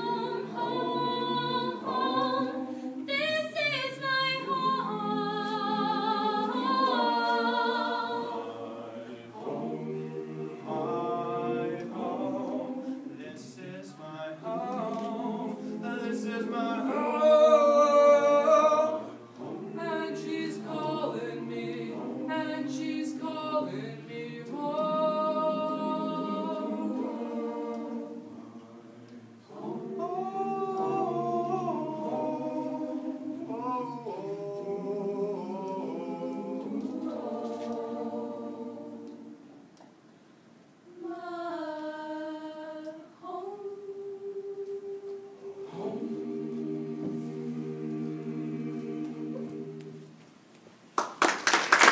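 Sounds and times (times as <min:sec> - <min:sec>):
mixed choir singing a cappella: 0:00.0 - 0:39.9, 0:40.8 - 0:50.3.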